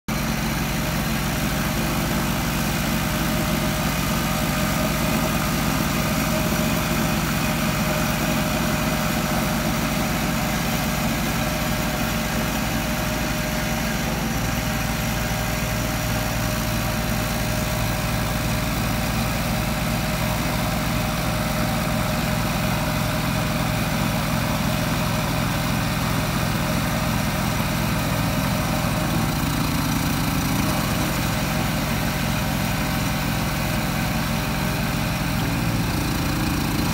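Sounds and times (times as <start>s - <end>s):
vibration roller engine humming: 0.1s - 36.9s.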